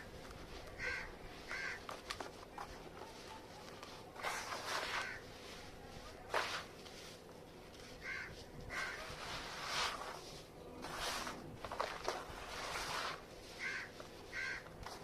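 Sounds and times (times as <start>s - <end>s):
dried clay lumps crunching: 0.0s - 15.0s.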